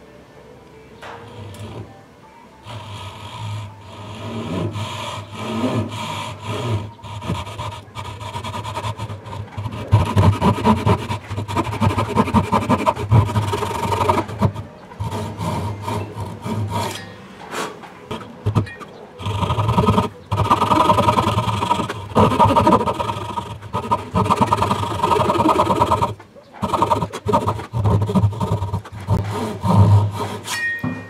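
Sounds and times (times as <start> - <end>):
hand saw cutting wood: 1.1 - 1.9, 2.6 - 30.7.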